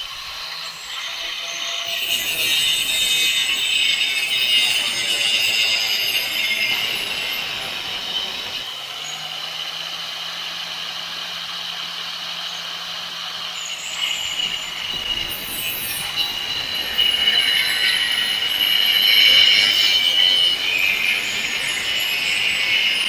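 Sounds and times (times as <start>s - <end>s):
angle grinder screeching: 0.0s - 23.0s.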